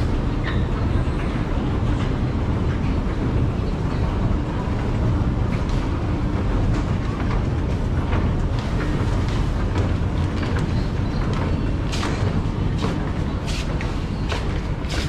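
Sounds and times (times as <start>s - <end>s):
escalator rumbling: 0.0s - 15.0s.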